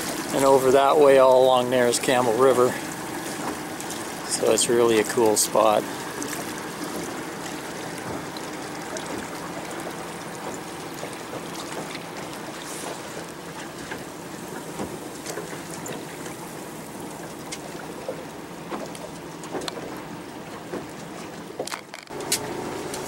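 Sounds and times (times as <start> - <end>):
small splashes: 0.0 - 23.0
water slapping against boat hull: 0.0 - 23.0.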